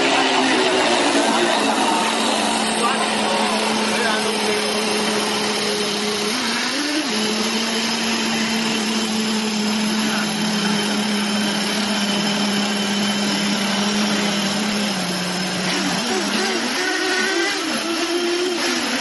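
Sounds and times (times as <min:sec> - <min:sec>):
model boat motor whining: 0:00.0 - 0:19.0.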